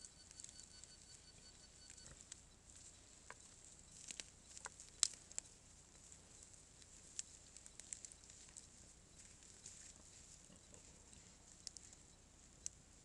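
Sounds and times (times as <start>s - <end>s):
wild boars rustling: 0.0s - 13.0s.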